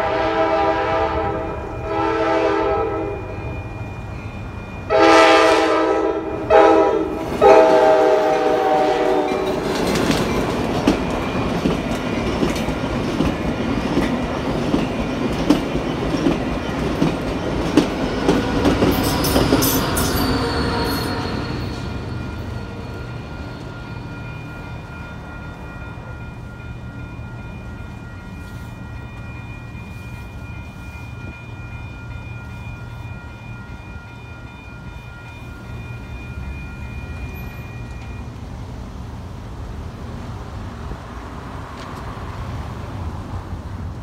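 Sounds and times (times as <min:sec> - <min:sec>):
railroad crossing bell ringing: 0:00.0 - 0:38.5
train rumble: 0:00.0 - 0:44.0.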